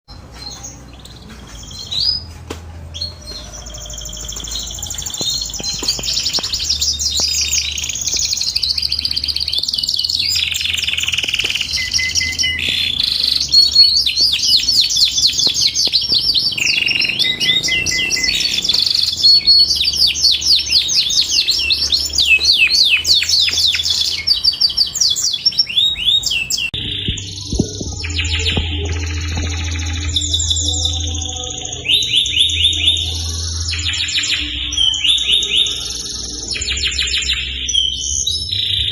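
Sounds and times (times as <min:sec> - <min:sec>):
canary singing trills: 0:00.1 - 0:38.9.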